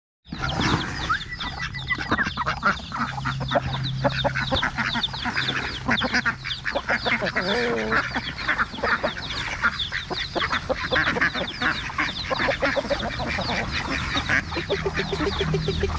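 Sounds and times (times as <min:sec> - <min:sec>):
chickens calling: 0:00.3 - 0:15.9
ducks quacking: 0:00.3 - 0:15.9.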